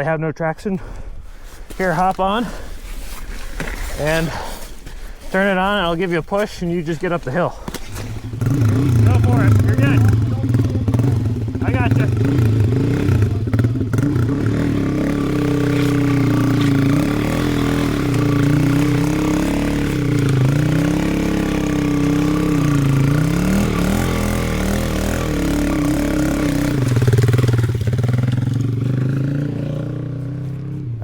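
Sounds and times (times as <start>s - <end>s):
dirt bike engine revving: 5.1s - 31.0s.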